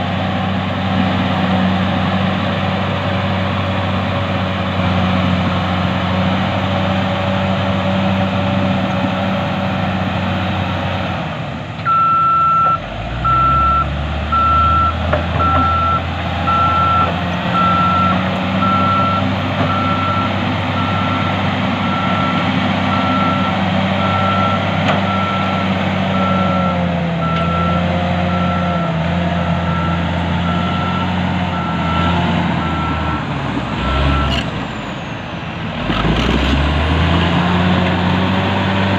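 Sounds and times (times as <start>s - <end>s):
diesel earthmoving machine running: 0.0s - 38.9s.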